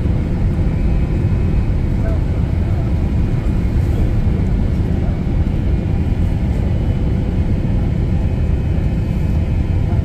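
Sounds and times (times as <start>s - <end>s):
jet airliner cabin noise: 0.0s - 10.0s.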